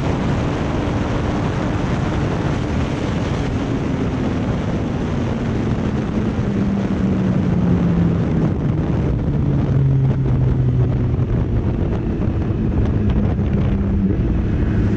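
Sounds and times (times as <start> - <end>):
motorcycle engine running: 0.0 - 14.9
wind on microphone: 0.0 - 14.9.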